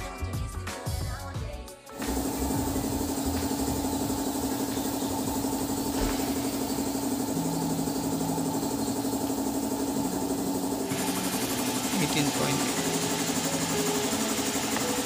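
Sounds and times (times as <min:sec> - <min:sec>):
motor fluttering hum: 0:01.9 - 0:15.0.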